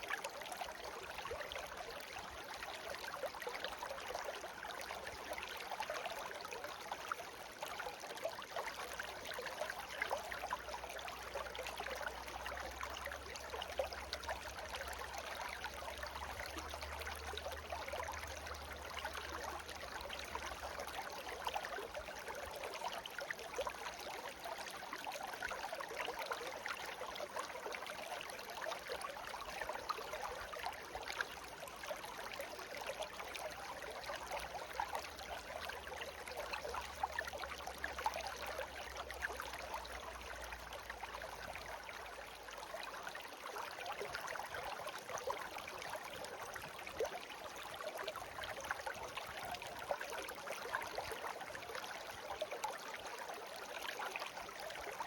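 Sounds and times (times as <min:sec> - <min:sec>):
shallow stream babbling: 0:00.0 - 0:55.0.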